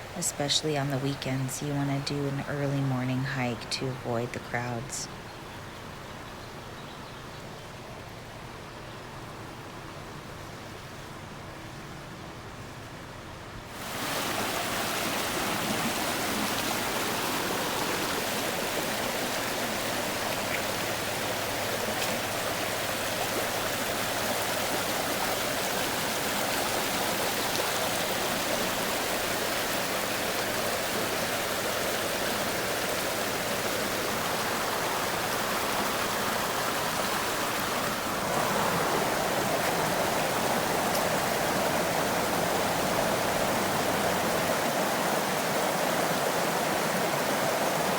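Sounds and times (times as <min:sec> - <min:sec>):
creek water rushing: 0:00.0 - 0:12.9, 0:13.7 - 0:47.9.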